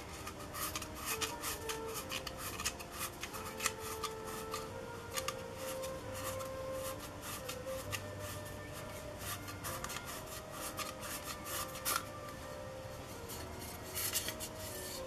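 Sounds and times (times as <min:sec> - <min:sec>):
plastic scrapes and light knocks: 0:00.0 - 0:12.4, 0:13.2 - 0:15.0
cloth wiping plastic: 0:00.0 - 0:15.0.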